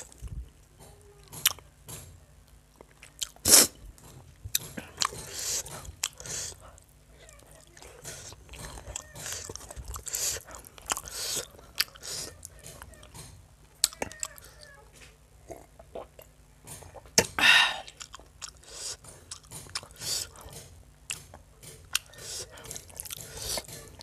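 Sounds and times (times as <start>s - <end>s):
chewing and mouth sounds: 1.2s - 1.6s, 2.5s - 24.0s.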